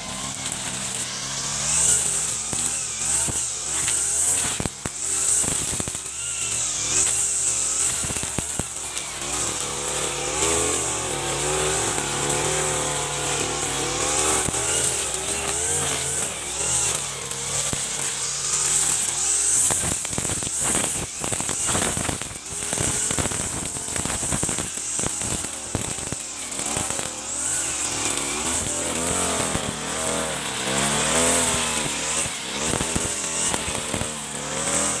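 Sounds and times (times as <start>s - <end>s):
brush cutter engine revving: 0.0s - 35.0s
sharp ticks and knocks: 0.1s - 35.0s.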